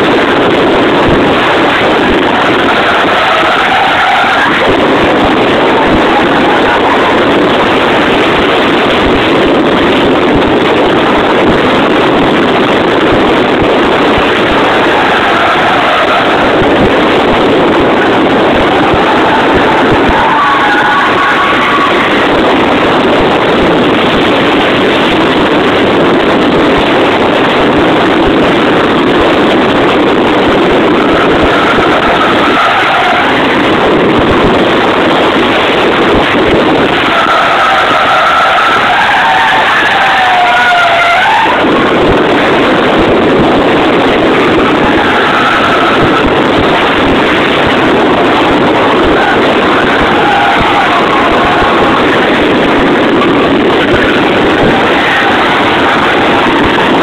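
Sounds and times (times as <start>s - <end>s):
rotary engine running hard: 0.0s - 57.0s
tyres skidding: 0.0s - 57.0s.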